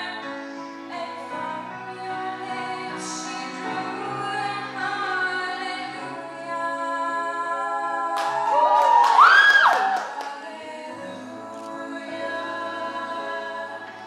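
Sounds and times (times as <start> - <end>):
vocal group singing in harmony: 0.0 - 14.0.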